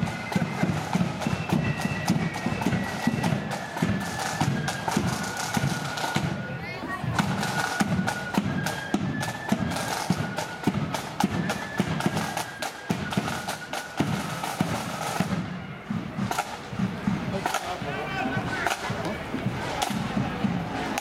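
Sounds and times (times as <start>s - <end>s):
drum beats: 0.0s - 21.0s
flute melody: 0.0s - 21.0s.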